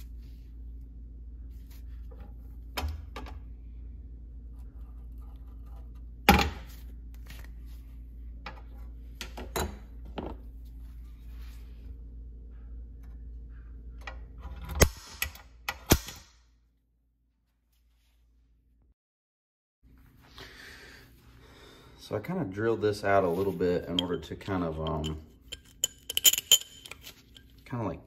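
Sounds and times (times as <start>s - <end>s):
steady low hum: 0.0s - 15.7s, 19.9s - 28.0s.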